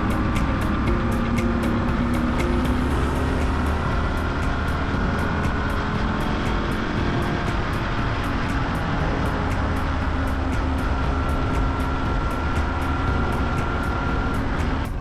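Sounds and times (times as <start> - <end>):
background music with steady beat: 0.0 - 15.0
motorcycle engine rumble: 0.0 - 15.0
road noise: 0.0 - 15.0.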